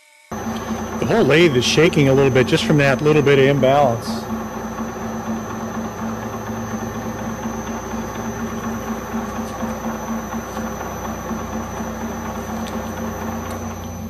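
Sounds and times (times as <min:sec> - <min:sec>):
metal lathe running: 0:00.3 - 0:14.0.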